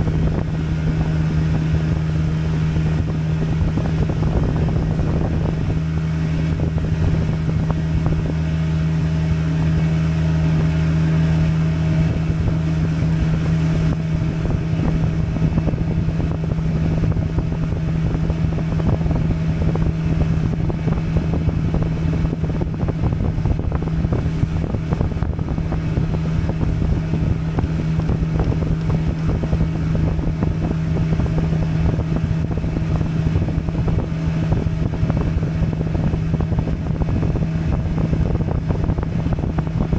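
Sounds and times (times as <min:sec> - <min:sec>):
boat motor humming: 0:00.0 - 0:39.9.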